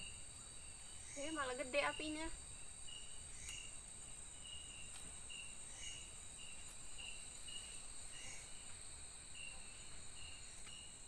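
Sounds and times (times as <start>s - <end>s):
insect chirps: 0.0s - 11.0s
insect drone: 0.0s - 11.0s.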